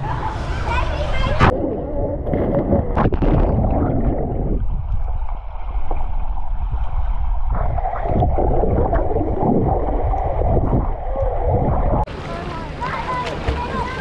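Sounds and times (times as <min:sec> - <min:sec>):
muffled underwater sloshing: 0:00.0 - 0:14.0.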